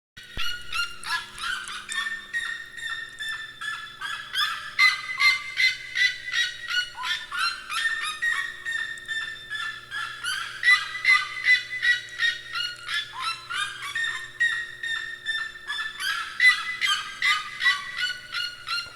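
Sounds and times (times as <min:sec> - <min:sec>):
birds calling in chorus: 0:00.3 - 0:18.9.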